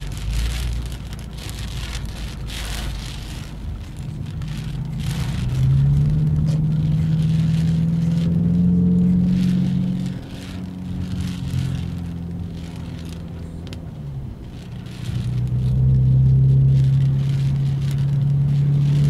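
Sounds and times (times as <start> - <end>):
car engine hum: 0.0 - 19.0
tyres hissing on wet road: 0.0 - 19.0.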